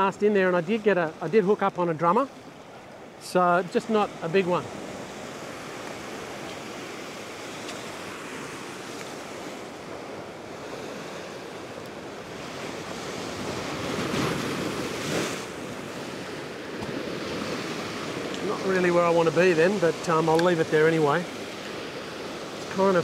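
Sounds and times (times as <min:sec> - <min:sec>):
ocean waves breaking on rocks: 0:00.0 - 0:23.0.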